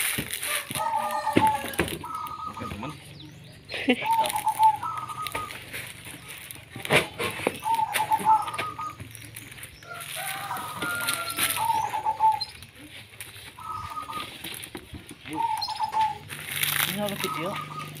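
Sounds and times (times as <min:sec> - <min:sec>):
birds calling: 0:00.4 - 0:18.0.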